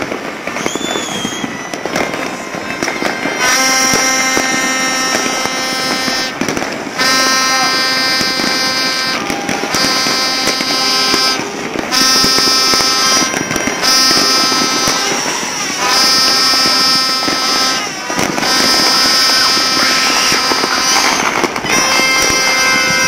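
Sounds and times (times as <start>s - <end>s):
fireworks and firecrackers popping: 0.0s - 23.0s
horns blasting: 1.9s - 23.0s.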